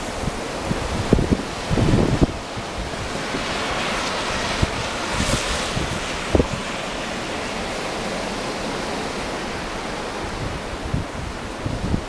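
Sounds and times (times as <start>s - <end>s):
blizzard wind blowing: 0.0s - 12.0s
wind buffeting microphone: 0.0s - 12.0s.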